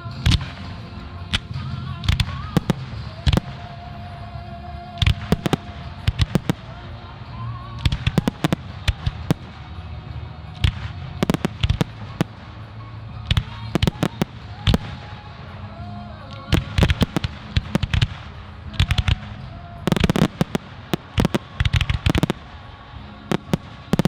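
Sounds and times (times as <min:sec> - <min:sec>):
music: 0:00.0 - 0:24.0.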